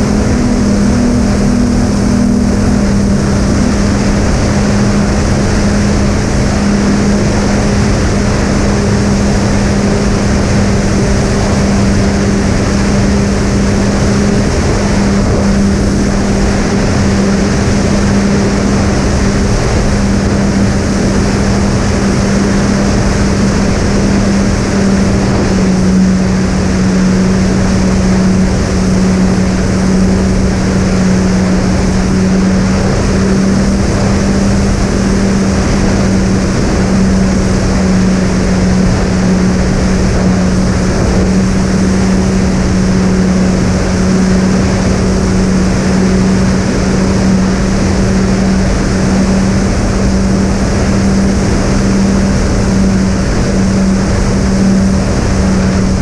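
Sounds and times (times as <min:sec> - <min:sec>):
drone motors and propellers humming: 0:00.0 - 0:56.0
rush of air: 0:00.0 - 0:56.0.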